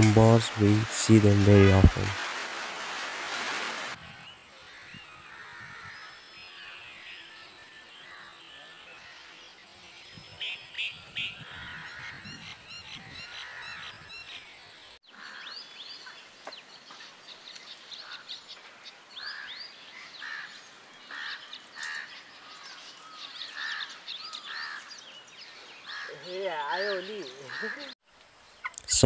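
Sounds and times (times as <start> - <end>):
wild birds chirping: 0.1 - 29.0.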